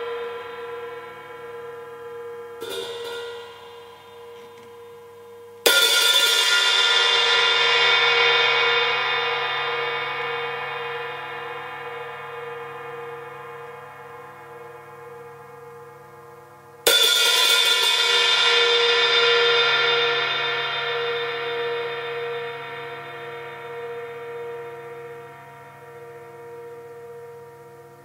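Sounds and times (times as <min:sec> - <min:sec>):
cymbal crash ringing: 0:00.0 - 0:28.0.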